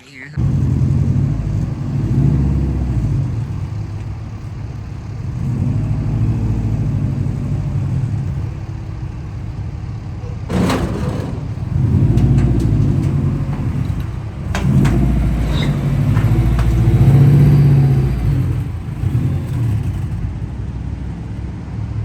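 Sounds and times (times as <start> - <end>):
car engine revving: 0.4 - 22.0.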